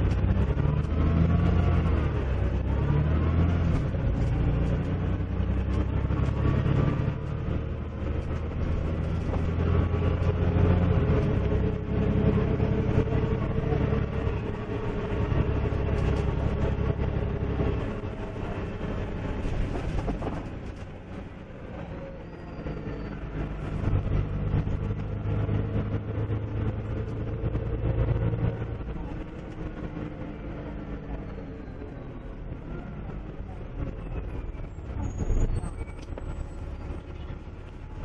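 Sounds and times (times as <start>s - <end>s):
bus engine: 0.0s - 38.0s.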